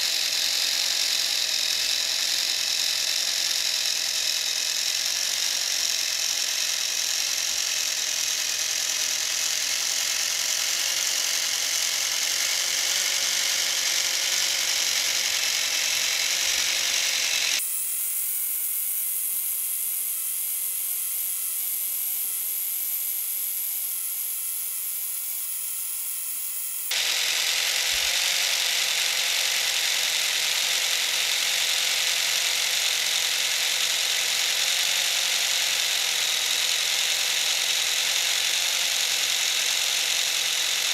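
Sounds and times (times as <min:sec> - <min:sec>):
electric motor whirring with gear whine: 0:00.0 - 0:40.9.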